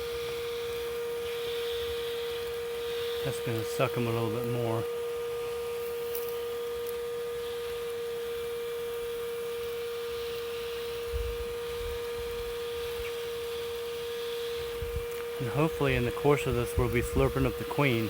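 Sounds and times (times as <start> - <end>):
vacuum whining: 0.0 - 18.0.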